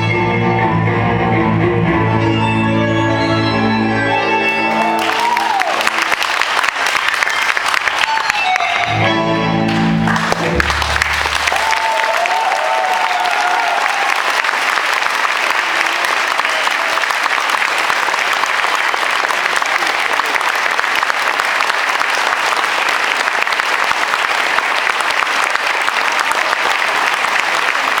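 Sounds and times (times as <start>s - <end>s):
large audience clapping: 4.5s - 28.0s.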